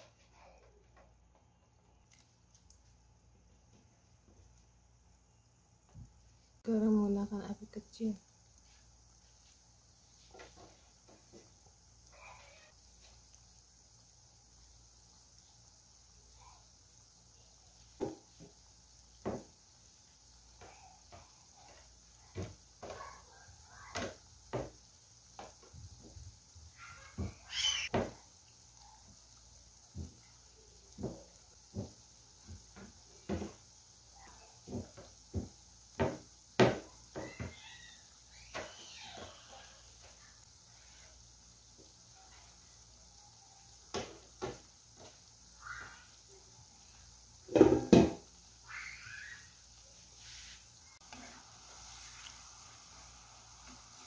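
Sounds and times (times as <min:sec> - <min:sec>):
dough sizzling in oil: 0:00.0 - 0:54.0
oil popping and crackling: 0:08.4 - 0:54.0.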